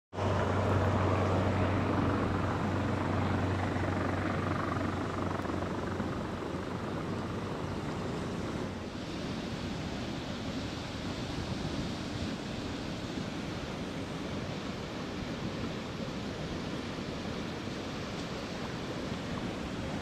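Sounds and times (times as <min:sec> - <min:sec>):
water rushing over weir: 0:00.2 - 0:20.0.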